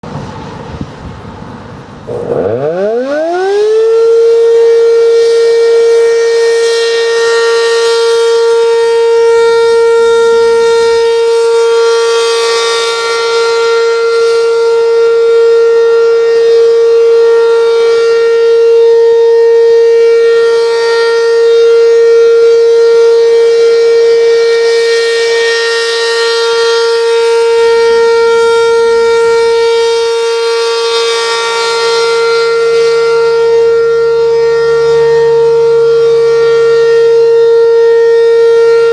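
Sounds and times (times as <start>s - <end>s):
civil defense siren: 0.0s - 38.9s.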